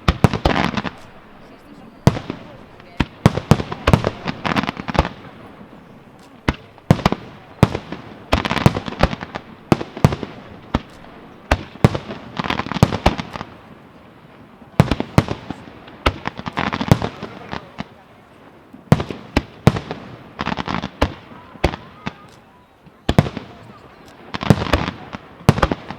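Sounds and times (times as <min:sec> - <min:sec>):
fireworks bangs: 0:00.0 - 0:25.9
fireworks crackling: 0:00.0 - 0:25.9.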